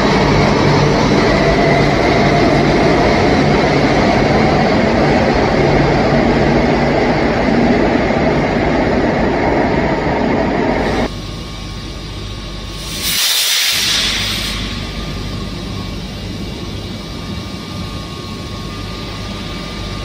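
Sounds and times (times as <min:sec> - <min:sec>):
train motor hum: 0:00.0 - 0:20.0
train wheels rumbling on rail: 0:00.0 - 0:20.0.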